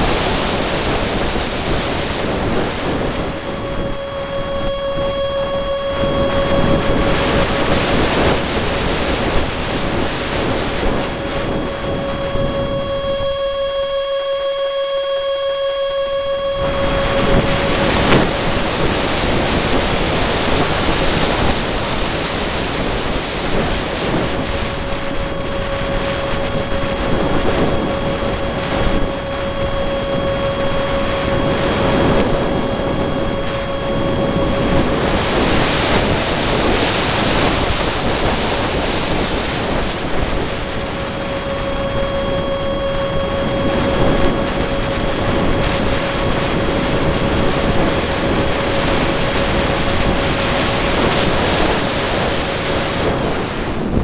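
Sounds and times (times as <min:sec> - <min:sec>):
model jet fan whine: 0:00.0 - 0:54.0
wind buffeting microphone: 0:00.0 - 0:54.0.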